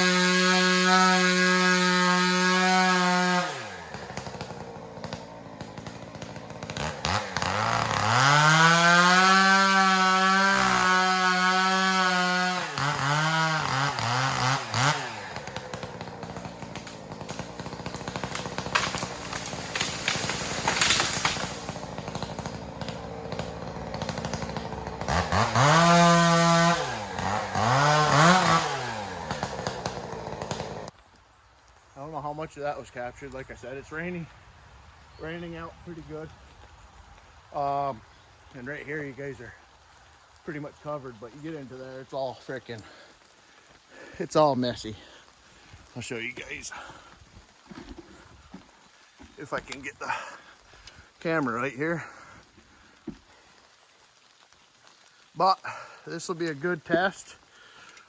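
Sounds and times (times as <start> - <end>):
chainsaw revving and idling: 0.0 - 31.0, 37.5 - 58.0.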